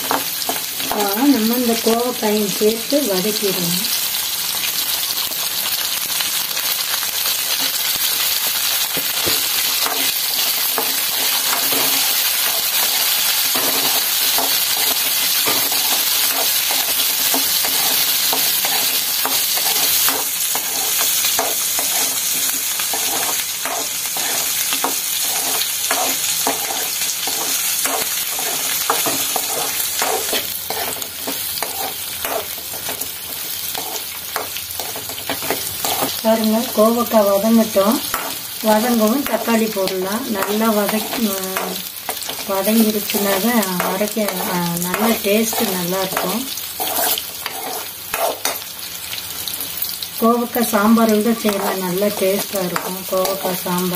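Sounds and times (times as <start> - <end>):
vegetables sizzling in hot oil: 0.0 - 53.9.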